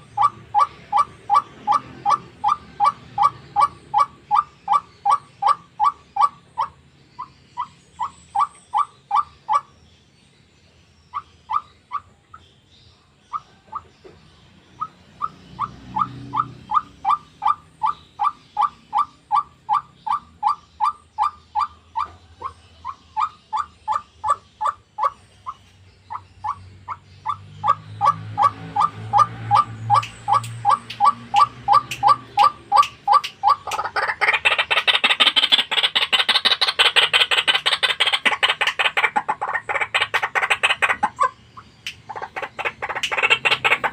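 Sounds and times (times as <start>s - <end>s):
waterhen calling: 0.0s - 6.8s, 14.8s - 43.9s.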